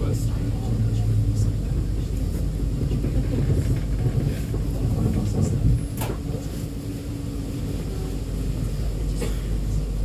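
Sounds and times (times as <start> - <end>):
tram running gear rumble: 0.0 - 10.0.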